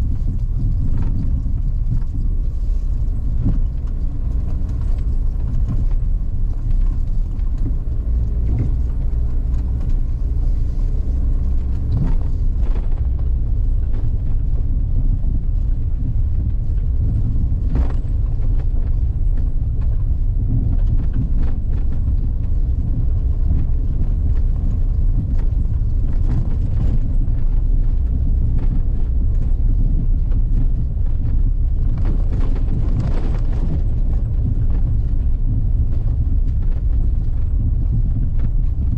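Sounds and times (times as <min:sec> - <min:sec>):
vehicle engine and tyres rumbling: 0:00.0 - 0:38.9.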